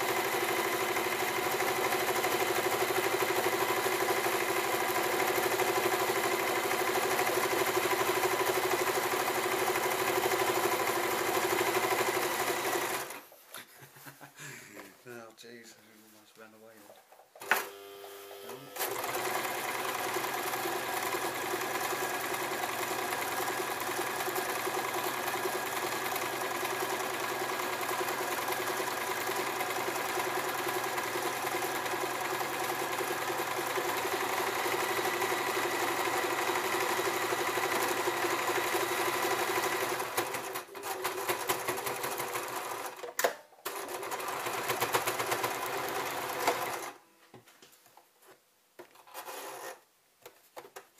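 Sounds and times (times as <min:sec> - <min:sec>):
sewing machine running: 0:00.0 - 0:13.2, 0:17.4 - 0:47.0.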